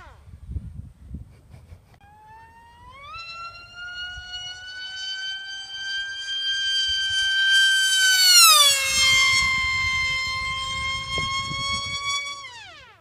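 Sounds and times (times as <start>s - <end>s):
model plane propeller whining: 0.0s - 0.5s, 1.9s - 13.0s.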